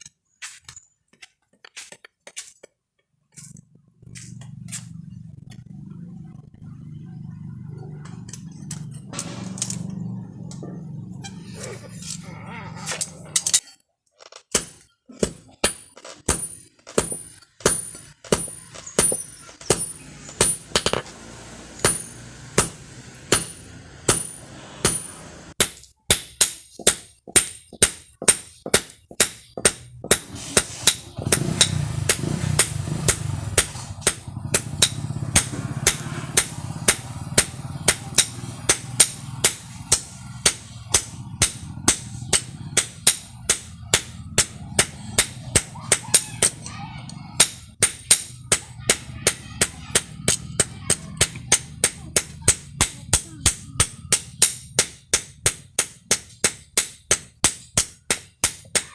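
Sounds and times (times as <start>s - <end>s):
hammer striking steel: 7.6s - 11.0s, 14.5s - 58.9s.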